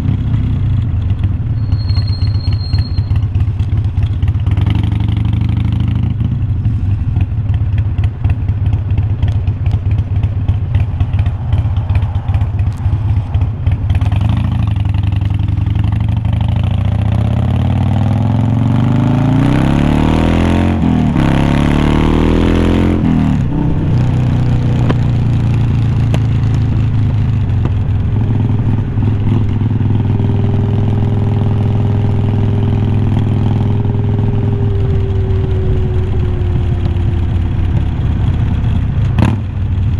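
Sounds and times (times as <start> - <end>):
exhaust crackle: 0.0 - 19.5, 20.3 - 39.9
motorcycle engine revving: 0.0 - 39.9.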